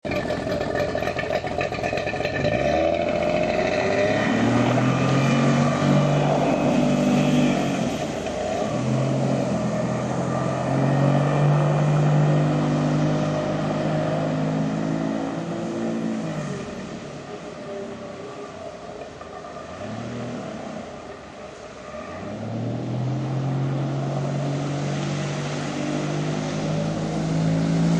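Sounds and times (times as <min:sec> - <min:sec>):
boat engine revving: 0:00.0 - 0:27.9.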